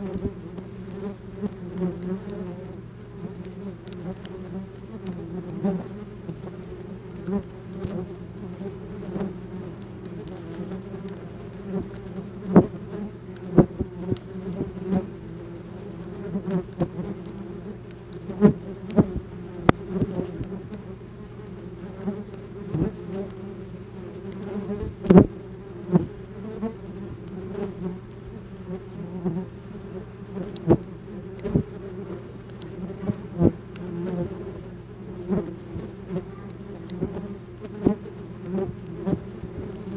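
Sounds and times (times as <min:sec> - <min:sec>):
wasps buzzing: 0:00.0 - 0:39.9.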